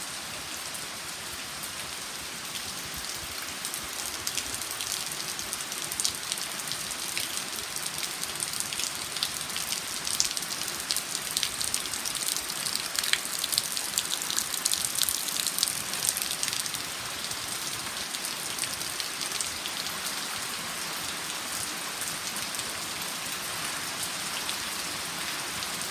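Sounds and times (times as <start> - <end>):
heavy rain on foliage: 0.0 - 25.9.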